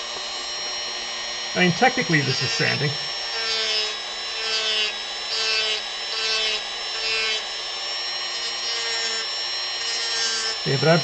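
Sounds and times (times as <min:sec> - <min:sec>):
high motor whine: 0:00.0 - 0:11.0
rotary tool sanding wood: 0:00.0 - 0:11.0.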